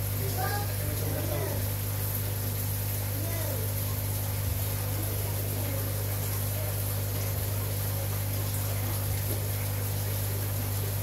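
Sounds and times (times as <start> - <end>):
aquarium water bubbling: 0.0 - 11.0
pump humming: 0.0 - 11.0.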